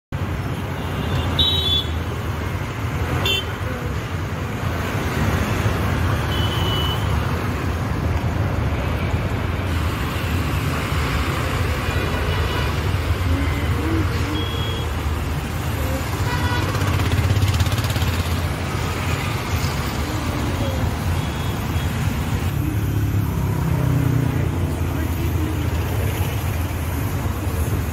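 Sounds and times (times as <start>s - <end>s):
road traffic: 0.1s - 27.9s.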